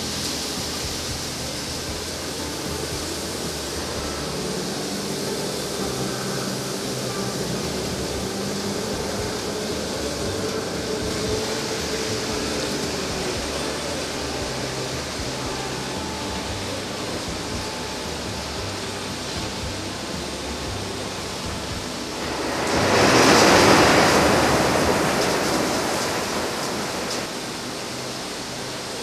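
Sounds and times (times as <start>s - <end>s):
forklift moving: 0.0s - 27.6s
machinery hum and hiss: 0.0s - 29.0s.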